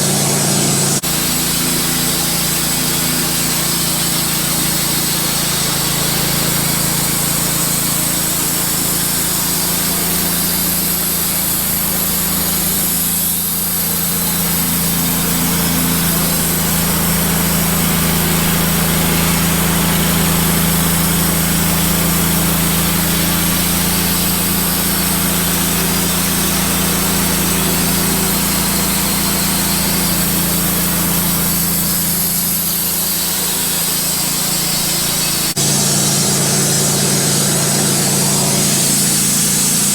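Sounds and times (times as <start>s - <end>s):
band saw blade cutting log: 0.0s - 39.9s
engine drone: 0.0s - 39.9s.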